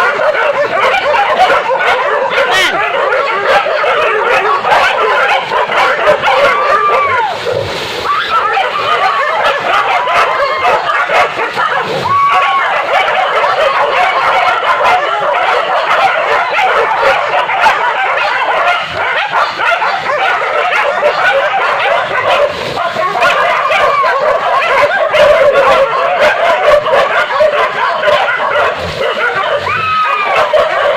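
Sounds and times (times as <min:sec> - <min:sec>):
dogs yelping and barking: 0:00.0 - 0:30.9.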